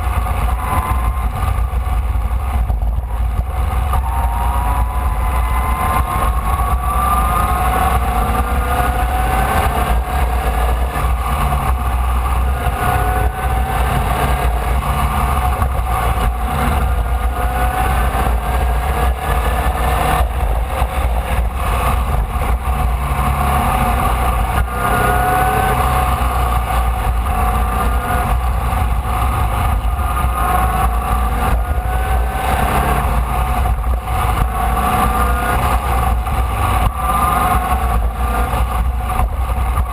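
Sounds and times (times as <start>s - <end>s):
race car engine revving: 0.0s - 39.9s
wind on microphone: 0.0s - 39.9s.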